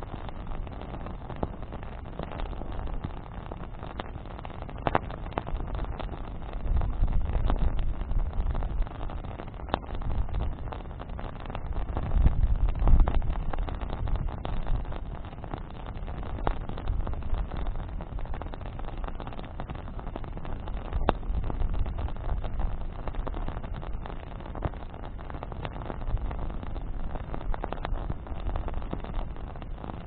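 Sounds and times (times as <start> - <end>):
bonfire crackling and popping: 0.0 - 30.0
fire low rumble: 0.0 - 30.0.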